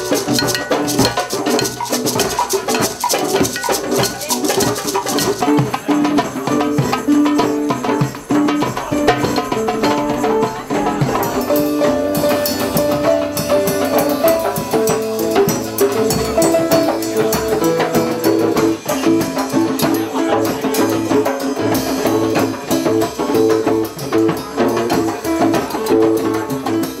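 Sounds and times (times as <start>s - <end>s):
hand drums playing: 0.0s - 27.0s
rattling percussion: 0.0s - 27.0s.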